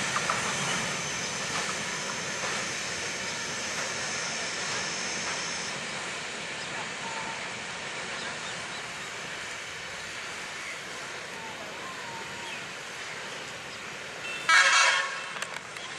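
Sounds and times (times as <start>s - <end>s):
train rolling rumble: 0.0s - 15.9s.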